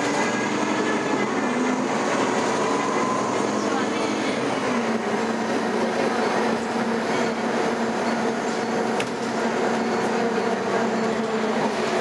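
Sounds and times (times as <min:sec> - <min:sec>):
city bus running: 0:00.0 - 0:12.0.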